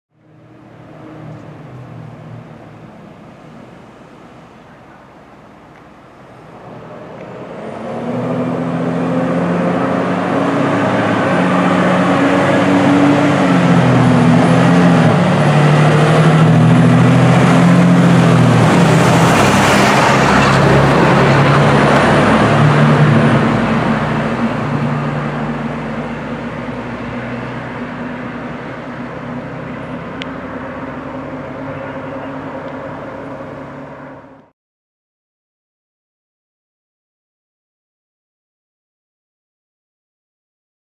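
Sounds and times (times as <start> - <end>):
fire engine diesel engine: 0.1 - 34.5
tyre and road rush: 0.1 - 34.5.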